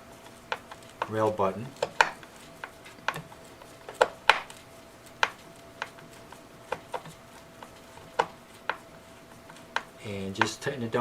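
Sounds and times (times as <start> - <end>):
small hard parts clicking: 0.1 - 10.7.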